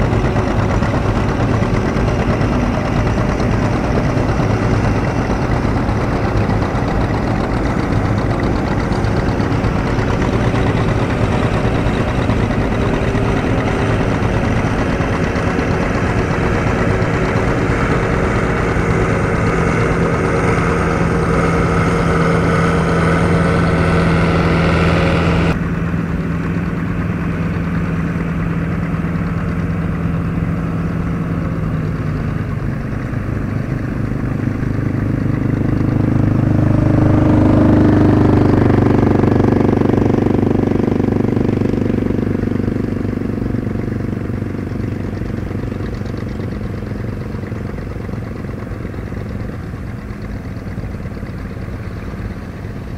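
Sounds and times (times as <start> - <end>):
low hum: 0.0 - 52.9
tractor engines running: 0.0 - 52.9.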